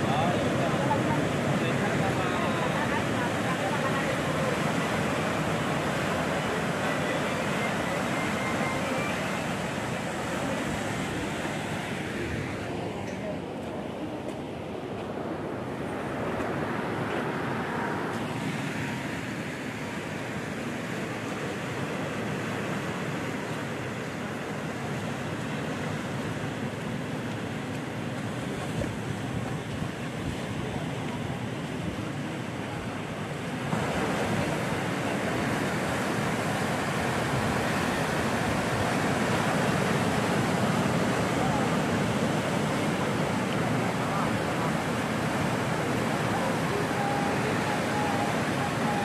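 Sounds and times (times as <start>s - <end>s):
surf breaking over rocks: 0.0s - 49.0s.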